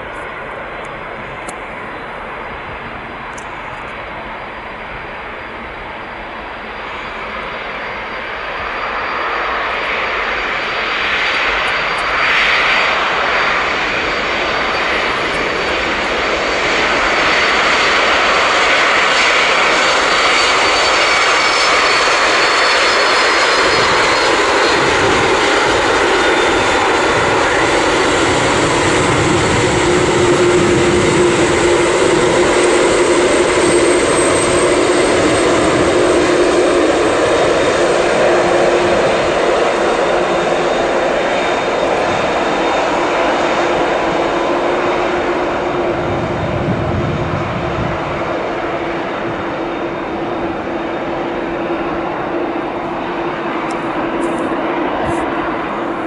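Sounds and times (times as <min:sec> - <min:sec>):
jet engine roar: 0:00.0 - 0:56.0
steady jet whine: 0:00.0 - 0:56.0.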